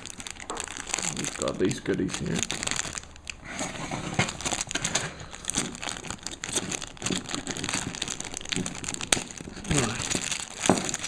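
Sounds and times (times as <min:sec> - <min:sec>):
small items knocking: 0:00.0 - 0:11.0
wrapping crinkling: 0:00.0 - 0:11.0.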